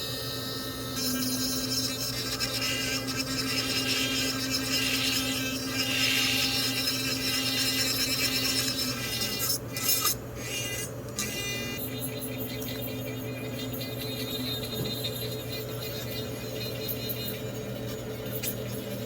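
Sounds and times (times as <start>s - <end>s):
small power tool humming: 0.0s - 19.0s.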